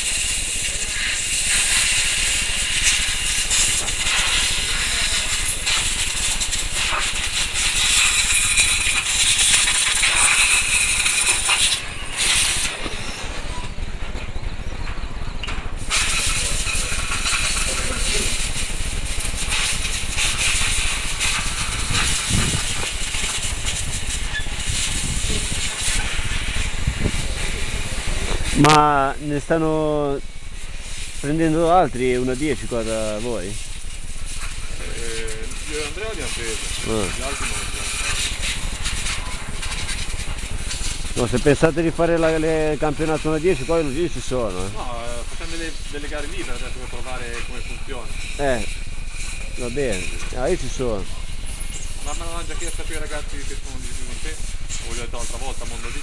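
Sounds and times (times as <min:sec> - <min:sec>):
toy car tyres on gravel: 0:00.0 - 0:56.0.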